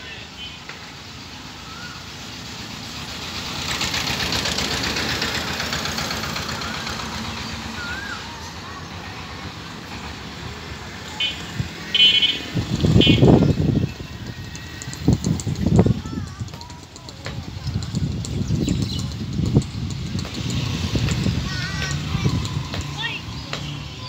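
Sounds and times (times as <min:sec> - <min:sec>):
vehicle engine noise: 0:00.0 - 0:24.0.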